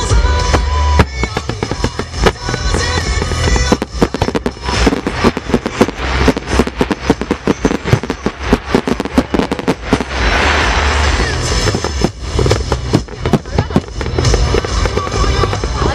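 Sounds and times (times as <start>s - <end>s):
crackling fireworks: 0.0s - 15.9s
firework launches and bursts: 0.0s - 15.9s.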